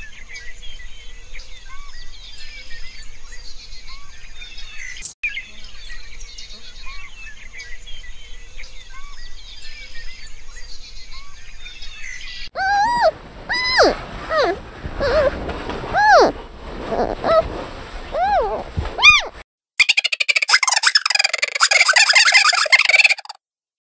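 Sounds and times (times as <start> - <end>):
small birds chirping and trilling: 0.2 - 15.3, 18.2 - 23.4.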